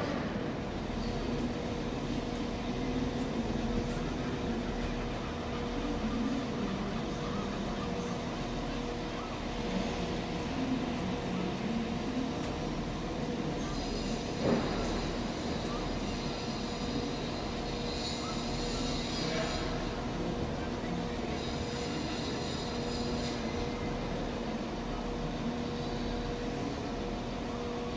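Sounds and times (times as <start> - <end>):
diesel locomotive engine drone: 0.0 - 27.9.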